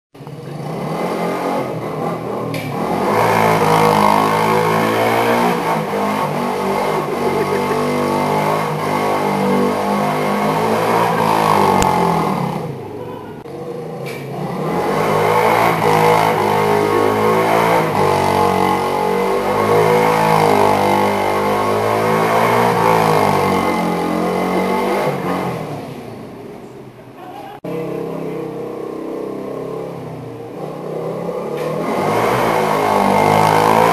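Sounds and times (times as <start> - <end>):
quad engine revving: 0.2 - 26.5, 27.7 - 33.9.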